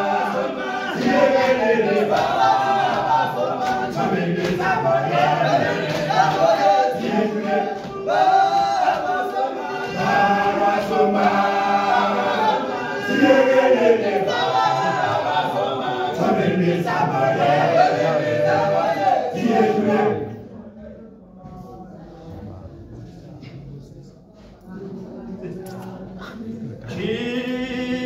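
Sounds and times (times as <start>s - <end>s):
male choir singing a cappella: 0.0s - 23.7s, 24.4s - 28.0s.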